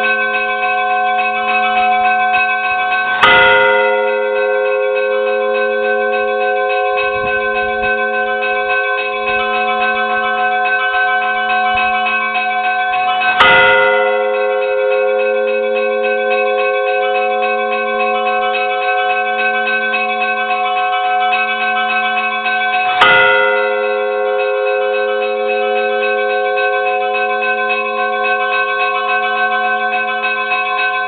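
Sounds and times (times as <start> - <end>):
small church bells ringing: 0.0 - 31.0.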